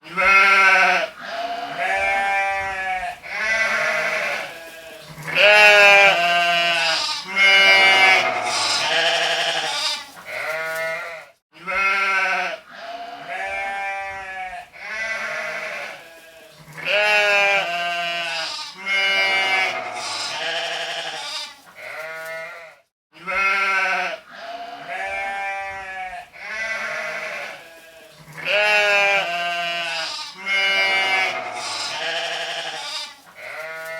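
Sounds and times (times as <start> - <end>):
sheep bleating: 0.0 - 33.9.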